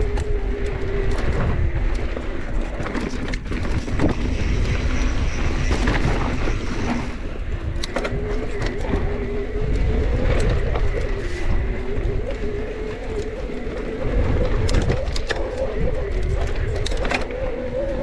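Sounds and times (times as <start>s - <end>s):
bike clicks and rattles: 0.0s - 18.0s
mid-pitched whine: 0.0s - 18.0s
wind rush on microphone: 0.0s - 18.0s.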